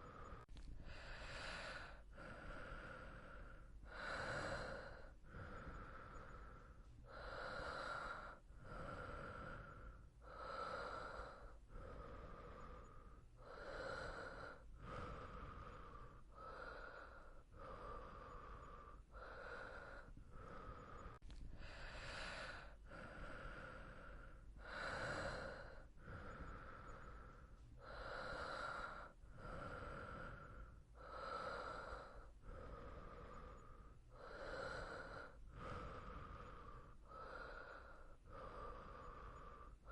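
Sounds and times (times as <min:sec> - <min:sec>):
person breathing softly in sleep: 0:00.0 - 0:39.9.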